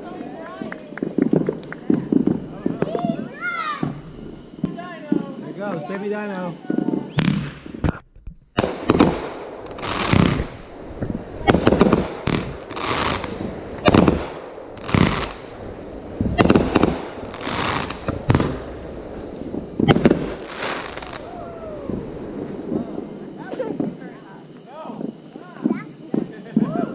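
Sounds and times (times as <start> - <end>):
fireworks bursting and crackling: 0.0 - 26.9.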